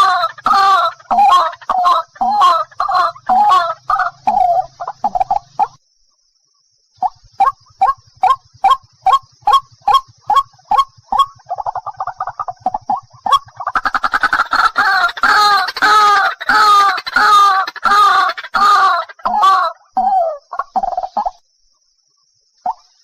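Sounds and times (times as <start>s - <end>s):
waterhen calling: 0.0s - 5.8s, 7.0s - 21.4s.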